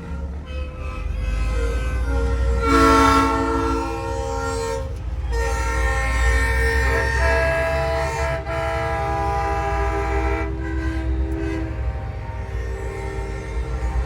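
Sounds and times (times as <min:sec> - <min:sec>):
diesel engine rumble: 0:00.0 - 0:14.0
truck train horn blasts: 0:00.0 - 0:14.0.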